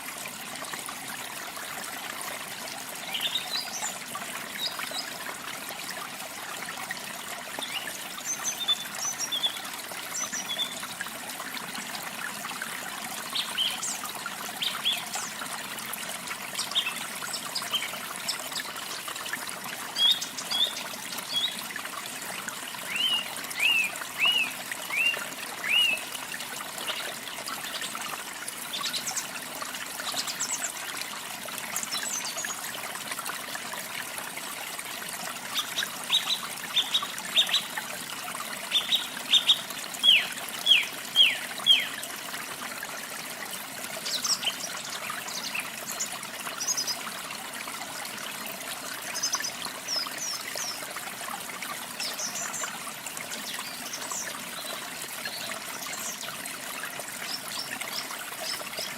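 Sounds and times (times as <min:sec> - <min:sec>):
waterfall running: 0:02.8 - 0:58.9.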